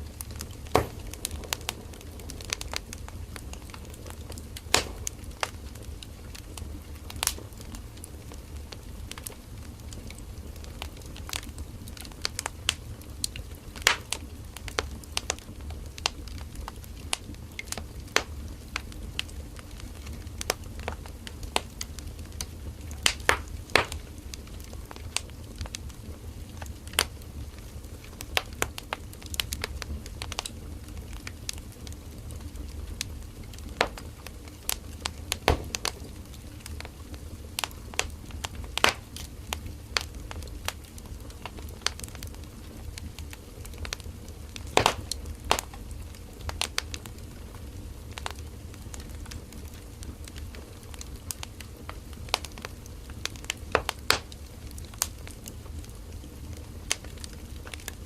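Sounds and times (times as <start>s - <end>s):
firewood crackling and popping: 0.0s - 58.0s
low rumble of flames: 0.0s - 58.0s.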